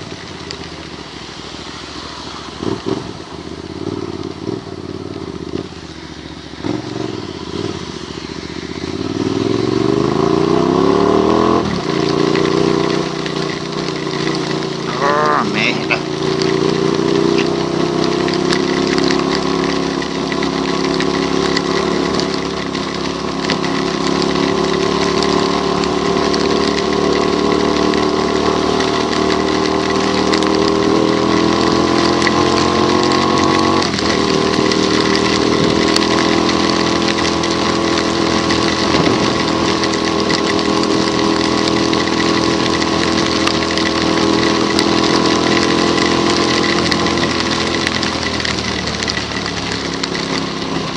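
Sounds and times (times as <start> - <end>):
tyres hissing on wet road: 0.0 - 50.9
vehicle engine accelerating: 0.0 - 50.9.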